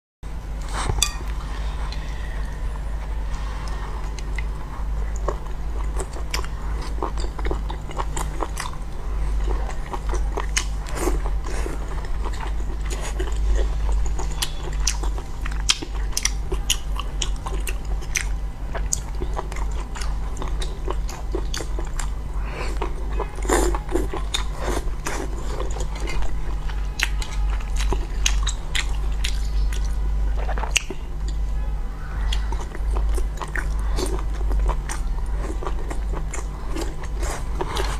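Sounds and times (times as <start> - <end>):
low hum: 0.2 - 37.9
person chewing crunchy food: 0.6 - 31.6, 32.2 - 37.9.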